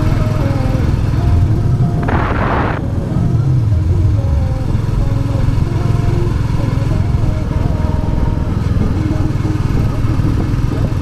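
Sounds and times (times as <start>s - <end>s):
motorcycle engine thumping: 0.0s - 11.0s.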